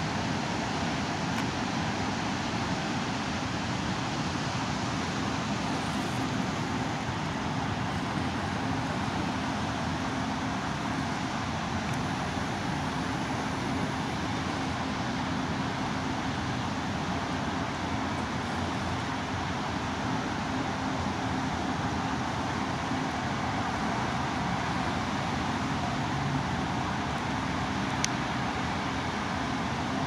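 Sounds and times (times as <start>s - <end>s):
distant city traffic: 0.0s - 30.0s
faint steady hum: 0.0s - 30.0s.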